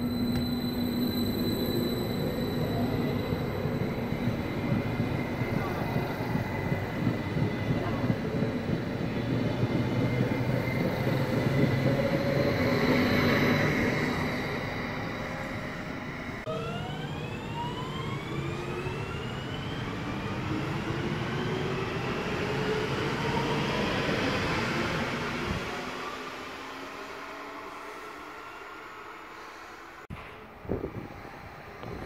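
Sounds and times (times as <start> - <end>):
electric train rumble and hum: 0.0 - 32.0.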